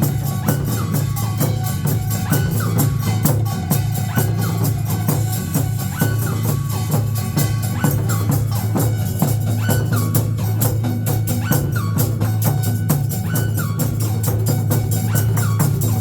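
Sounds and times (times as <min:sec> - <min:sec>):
upbeat music with percussion: 0:00.0 - 0:16.0.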